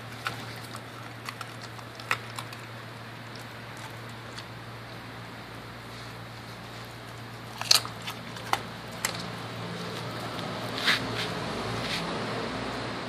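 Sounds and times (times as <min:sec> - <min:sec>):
dog chewing bone crunches: 0:00.0 - 0:12.0.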